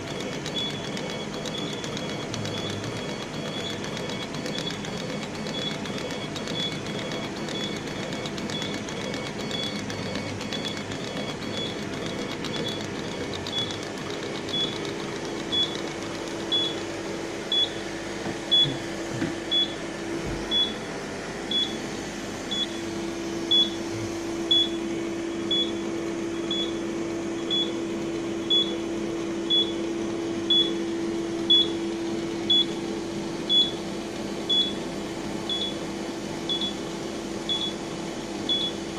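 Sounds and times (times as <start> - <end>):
laser cutter humming: 0.0 - 38.9.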